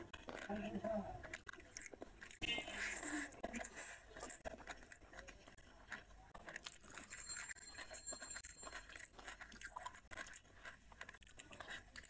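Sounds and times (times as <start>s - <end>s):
fingers mixing rice wet clicks: 0.0s - 12.0s.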